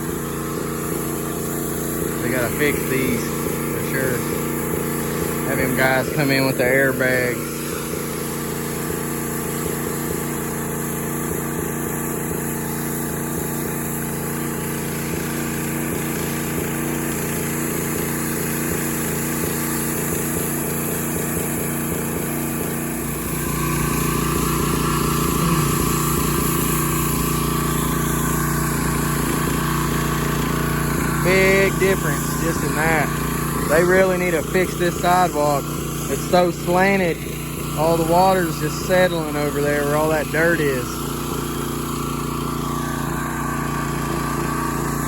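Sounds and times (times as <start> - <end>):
small engine running: 0.0 - 45.0
water spraying: 0.0 - 45.0.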